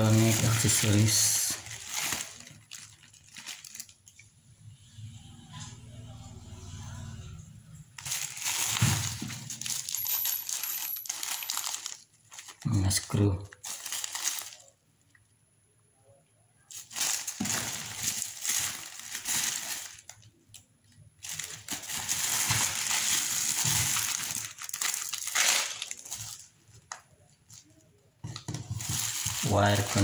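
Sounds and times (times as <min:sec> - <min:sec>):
plastic packaging crinkling: 0:00.0 - 0:04.3, 0:08.0 - 0:15.2, 0:16.7 - 0:30.0.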